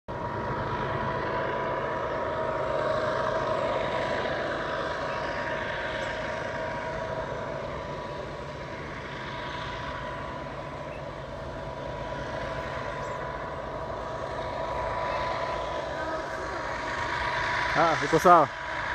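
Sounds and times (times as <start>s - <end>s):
diesel locomotive engine drone: 0.1s - 18.9s
high steady whine: 0.1s - 18.9s.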